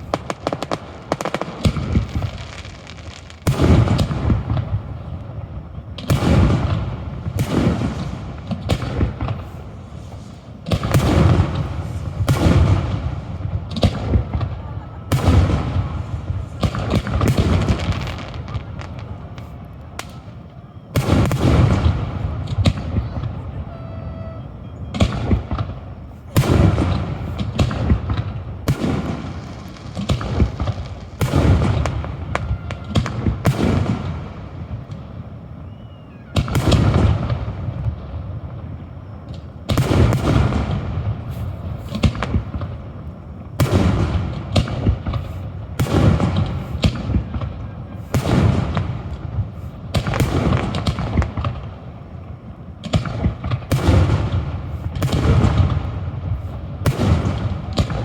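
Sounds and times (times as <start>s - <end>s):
fireworks booming: 0.0s - 58.0s
sharp firework reports: 0.0s - 58.0s.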